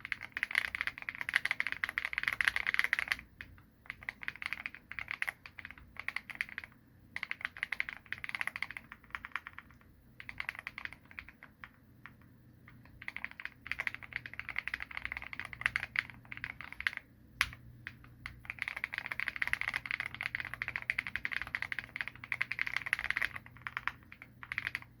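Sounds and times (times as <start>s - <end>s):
mechanical keyboard typing: 0.0s - 25.0s.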